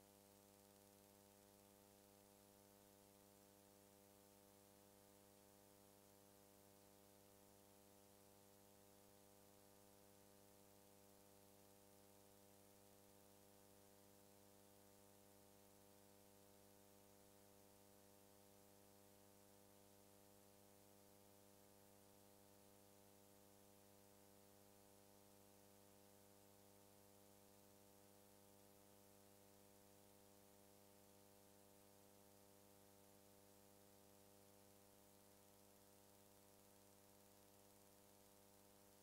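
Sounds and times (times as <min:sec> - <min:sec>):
faint electrical hum with hiss: 0:00.0 - 0:39.0.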